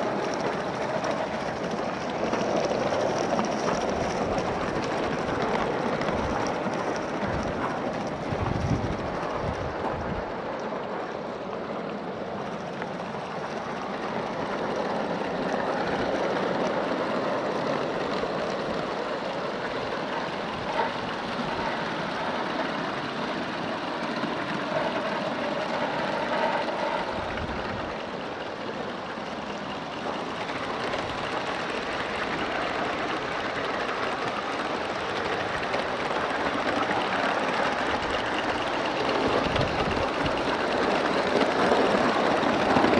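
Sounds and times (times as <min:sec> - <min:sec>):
wheels rolling on rails: 0:00.0 - 0:42.9.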